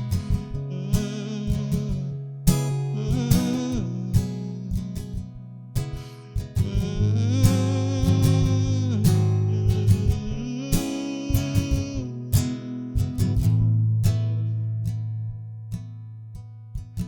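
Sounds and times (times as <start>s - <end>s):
low bass: 0.0s - 16.3s
strummed acoustic guitar: 0.0s - 17.0s.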